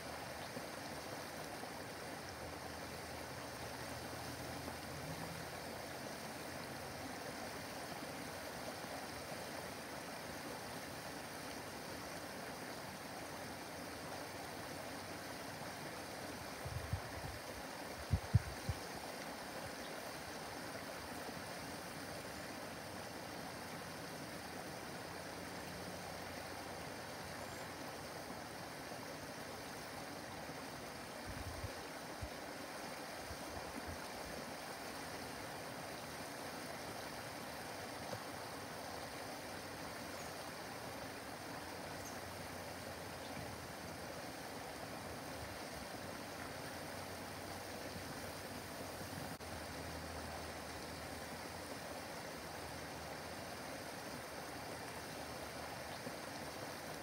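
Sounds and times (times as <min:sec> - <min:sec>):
waterfall rushing into a pond: 0:00.0 - 0:57.0.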